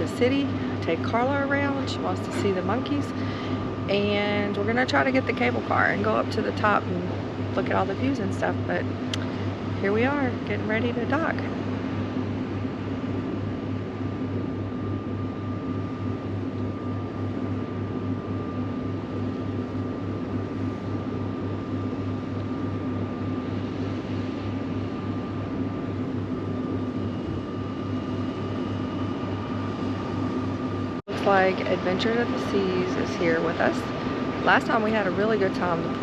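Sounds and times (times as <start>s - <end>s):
faint machinery whine: 0.0s - 36.0s
ship machinery humming: 0.0s - 36.0s.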